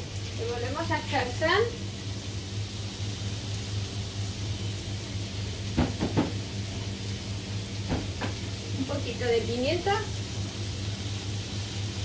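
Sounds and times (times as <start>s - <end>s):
constant low hum: 0.0s - 12.0s
vegetables sizzling in oil: 0.0s - 12.0s.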